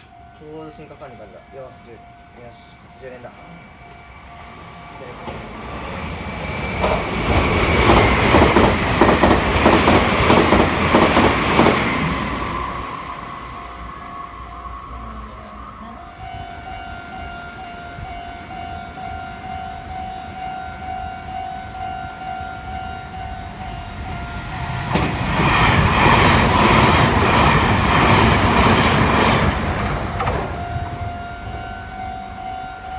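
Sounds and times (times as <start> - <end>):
electric train passing at speed: 0.0 - 32.9.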